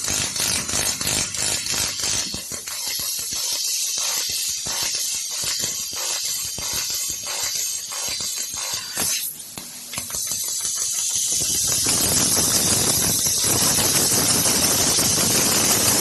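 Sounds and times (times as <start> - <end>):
laser cutter loud hiss: 0.0 - 16.0.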